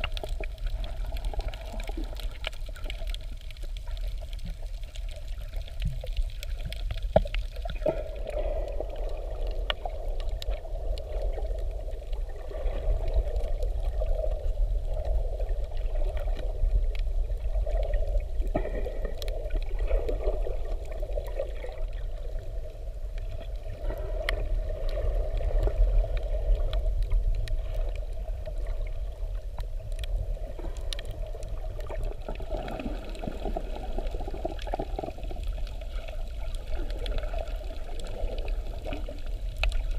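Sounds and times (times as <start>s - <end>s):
underwater water rush: 0.0s - 39.9s.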